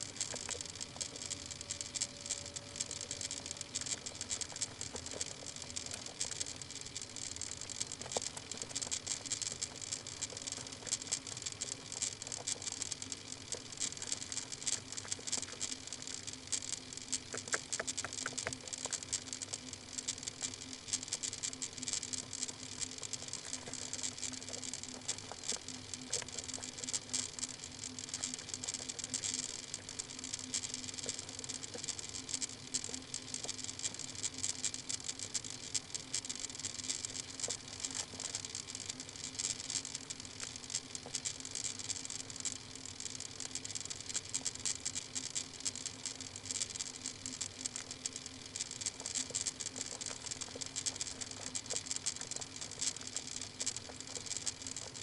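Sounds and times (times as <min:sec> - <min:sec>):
crackling hiss: 0:00.0 - 0:55.0
steady low hum: 0:00.0 - 0:55.0.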